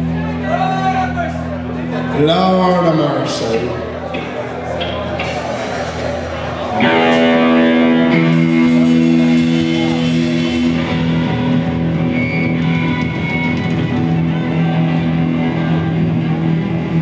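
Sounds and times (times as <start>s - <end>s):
electric guitars ringing: 0.0s - 17.0s
rock band playing live: 0.0s - 17.0s.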